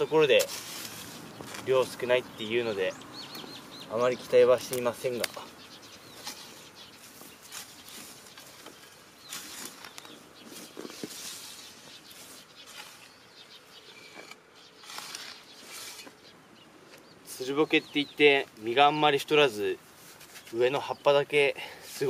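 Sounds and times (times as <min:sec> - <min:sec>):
rustling and scraping of soil: 0:00.0 - 0:22.0.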